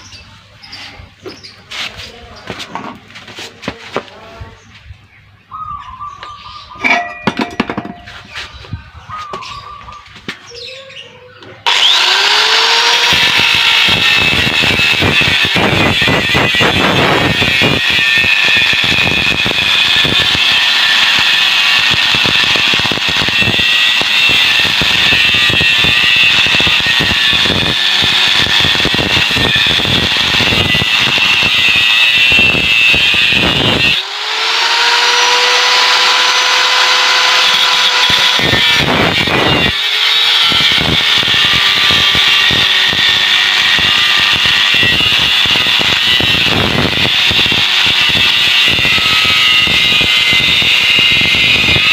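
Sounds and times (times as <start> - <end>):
angle grinder cutting metal: 6.8 - 8.4, 11.6 - 51.9.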